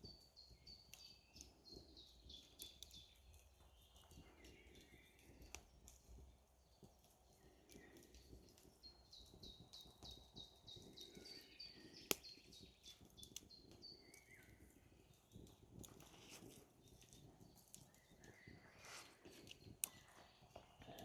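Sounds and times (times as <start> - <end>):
small bird singing: 0.0 - 21.0.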